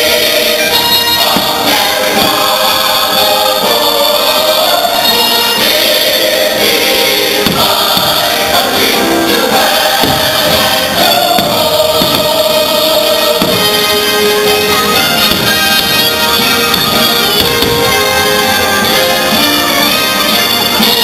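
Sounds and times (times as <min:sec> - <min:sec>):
choir singing over music: 0:00.0 - 0:21.0
fireworks bursts: 0:00.0 - 0:21.0.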